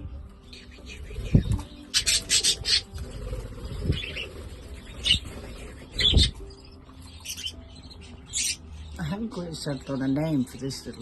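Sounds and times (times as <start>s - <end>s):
budgerigars chirping: 0.0s - 11.0s.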